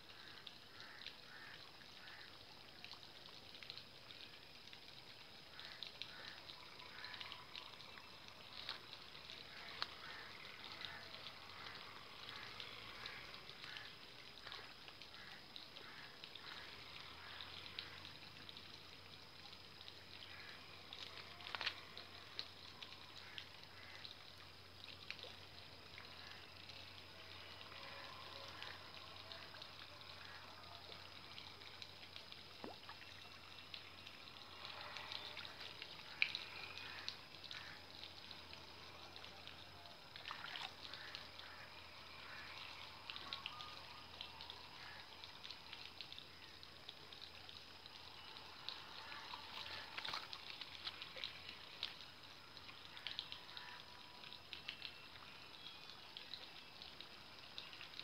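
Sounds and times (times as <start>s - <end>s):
water trickling and dripping: 0.0s - 58.0s.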